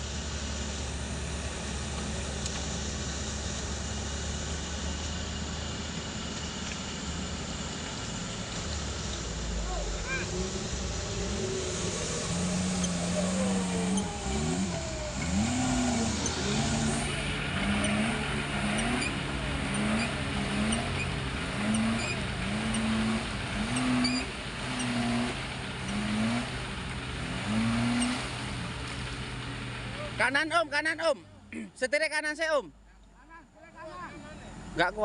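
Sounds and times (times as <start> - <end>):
engine revving throttle blips: 0.0 - 35.0
second engine running steadily: 0.0 - 35.0.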